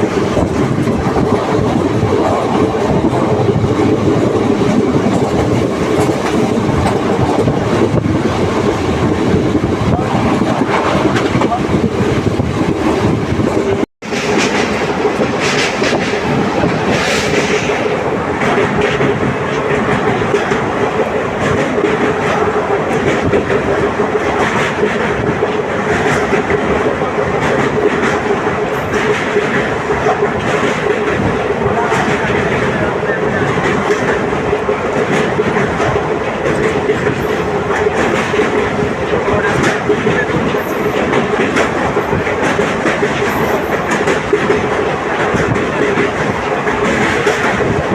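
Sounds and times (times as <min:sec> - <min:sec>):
train running rumble: 0:00.0 - 0:47.9
wheels clacking over rail joints: 0:00.0 - 0:47.9.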